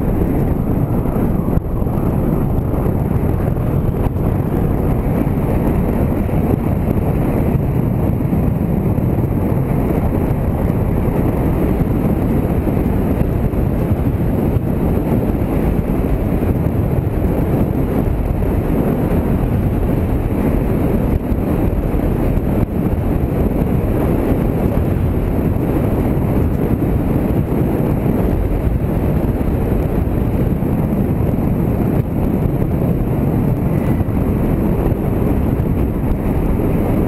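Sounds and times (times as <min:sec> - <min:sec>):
motorcycle engine: 0:00.0 - 0:37.0
road noise: 0:00.0 - 0:37.0
wind rush over microphone: 0:00.0 - 0:37.0.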